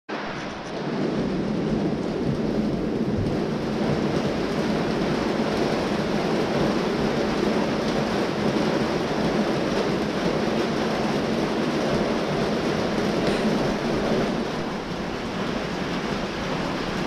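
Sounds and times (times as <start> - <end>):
heavy rain falling: 0.1 - 17.0.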